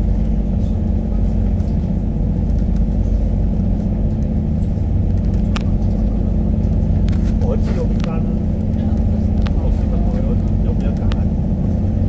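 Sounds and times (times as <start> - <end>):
boat engine drone: 0.0 - 12.0
water churning along hull: 0.0 - 12.0.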